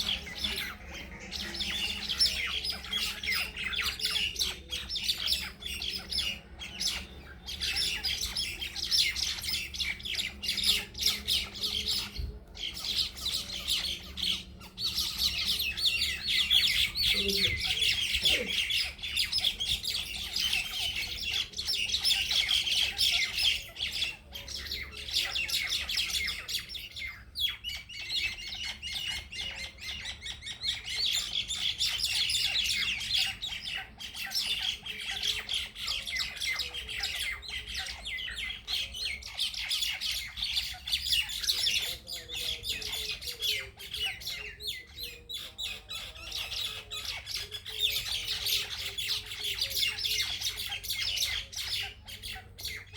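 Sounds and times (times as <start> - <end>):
birds squawking and chattering: 0.0 - 52.9.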